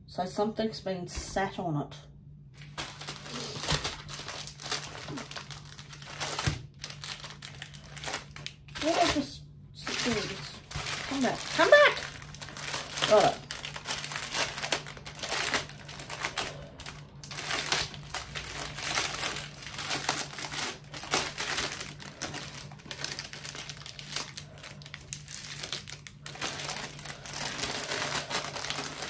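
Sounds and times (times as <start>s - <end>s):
plastic bag crinkling: 2.6s - 29.0s
small packets shifting: 2.6s - 29.0s.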